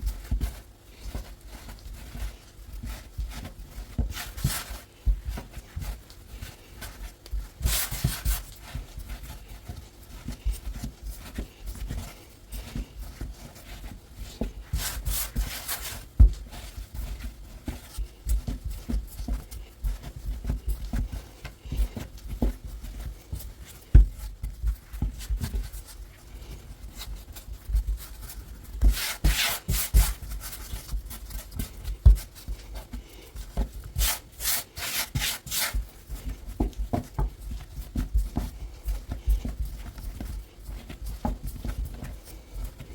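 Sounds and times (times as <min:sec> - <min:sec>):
dough kneading thumps: 0:00.0 - 0:42.9.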